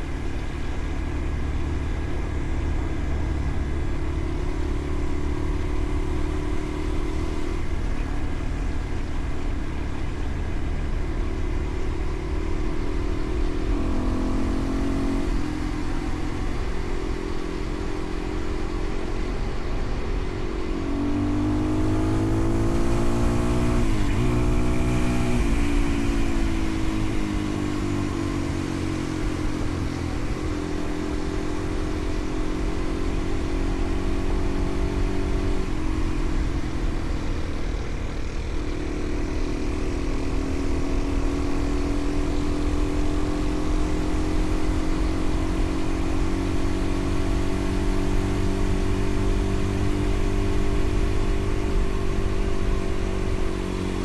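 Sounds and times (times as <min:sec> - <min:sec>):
vehicle engine revving: 0:00.0 - 0:54.0
wind and road rumble: 0:00.0 - 0:54.0.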